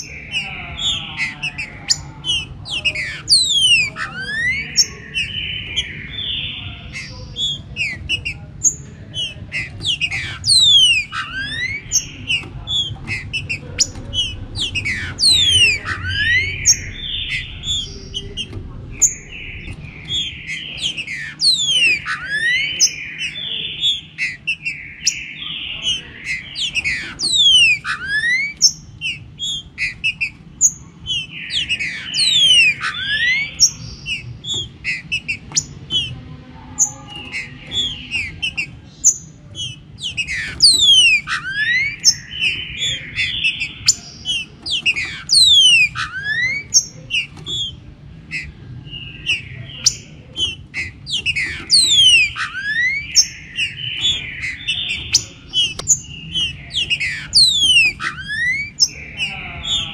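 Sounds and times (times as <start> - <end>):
bird singing whistled phrases: 9.2 - 30.4, 31.1 - 36.1, 36.8 - 59.9.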